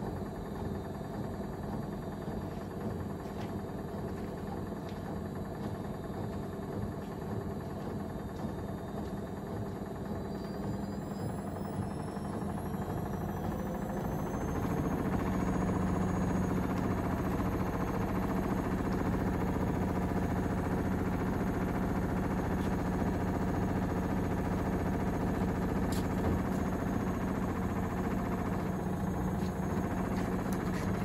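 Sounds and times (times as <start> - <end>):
washing machine spinning: 0.0 - 31.0.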